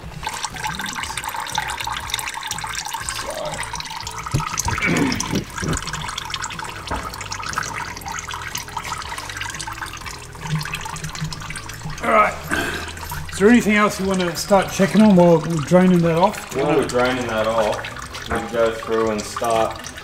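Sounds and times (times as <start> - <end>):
oil pouring into a pan: 0.0 - 20.0.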